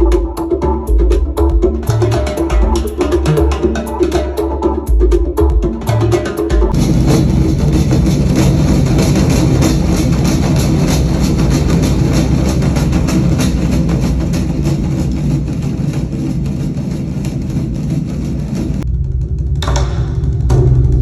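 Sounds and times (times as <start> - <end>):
music with heavy bass beat: 0.0 - 18.9.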